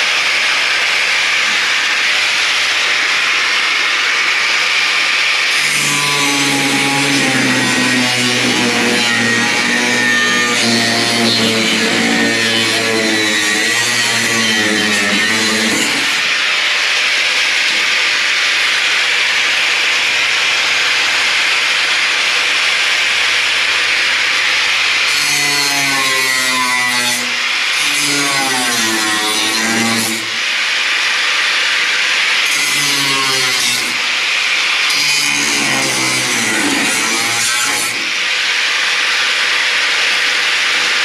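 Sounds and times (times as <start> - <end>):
power saw cutting sheet metal: 0.0 - 41.0.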